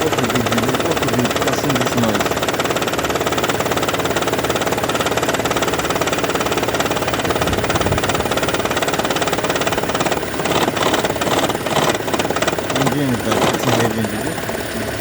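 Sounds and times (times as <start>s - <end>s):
car engine idling: 0.0s - 15.0s
rapid knocking rattle: 0.0s - 15.0s.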